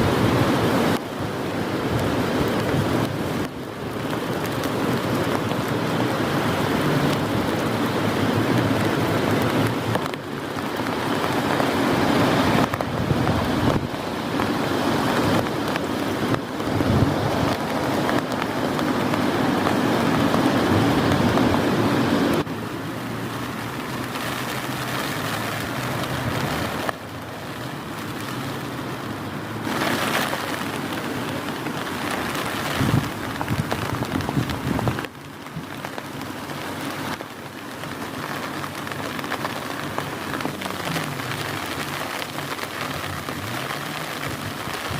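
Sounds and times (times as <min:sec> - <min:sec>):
gusting wind: 0:00.0 - 0:44.9
heavy rain pouring: 0:00.0 - 0:44.9
raindrops tapping on a surface: 0:00.0 - 0:44.9.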